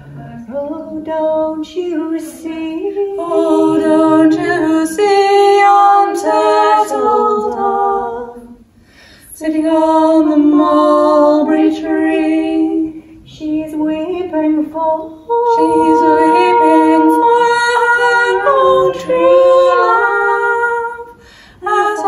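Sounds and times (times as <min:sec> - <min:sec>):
women singing unaccompanied: 0:00.4 - 0:08.7, 0:09.3 - 0:22.0.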